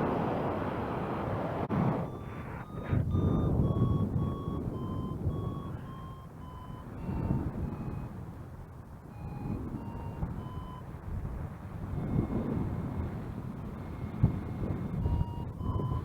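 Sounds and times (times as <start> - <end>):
wind buffeting microphone: 0.0 - 16.0
variometer beeping: 1.7 - 16.0.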